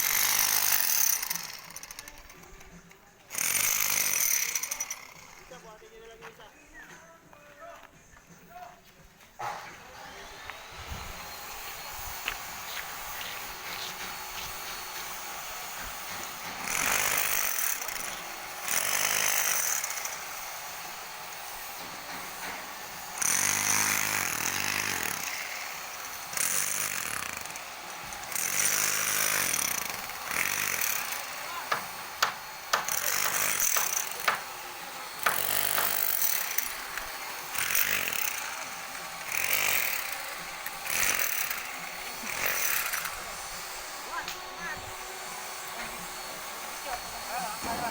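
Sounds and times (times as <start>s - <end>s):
power tool running in bursts: 0.0s - 2.4s, 9.4s - 47.9s.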